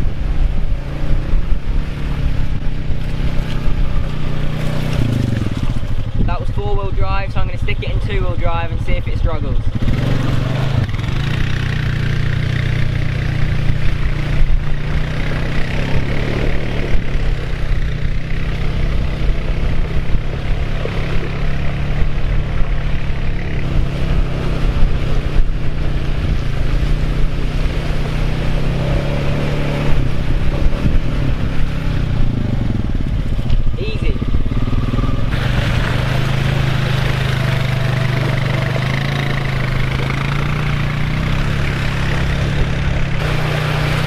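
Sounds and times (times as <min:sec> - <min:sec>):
quad bike engine running: 0:00.0 - 0:44.0
vehicle splashing through puddle: 0:01.8 - 0:06.3, 0:09.6 - 0:44.0.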